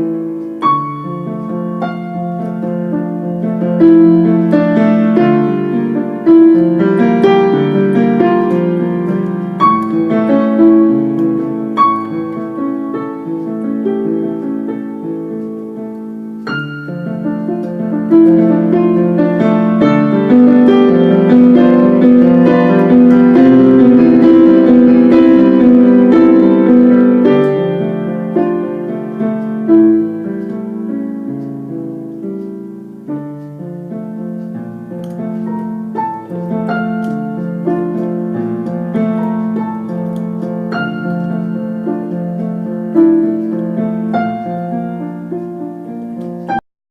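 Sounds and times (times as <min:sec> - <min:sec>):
slow solo piano piece: 0:00.0 - 0:46.6.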